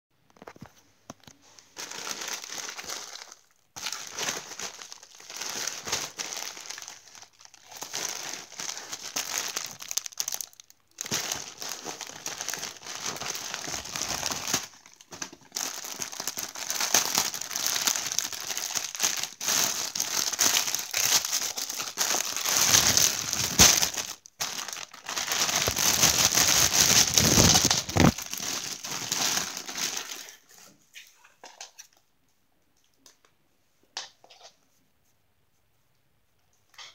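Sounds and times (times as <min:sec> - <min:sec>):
plastic packaging crinkling: 0:00.4 - 0:30.5.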